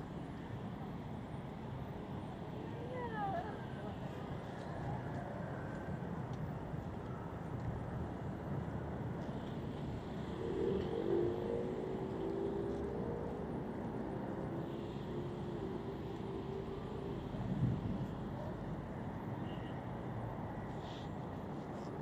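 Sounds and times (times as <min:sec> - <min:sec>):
rush of passing cars: 0:01.0 - 0:22.0.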